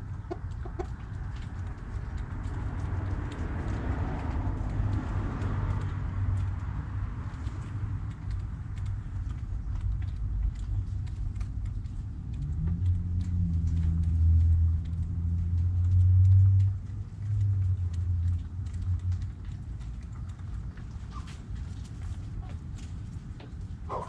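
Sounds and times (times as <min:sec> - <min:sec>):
passing vehicle rumble: 0:00.0 - 0:24.0.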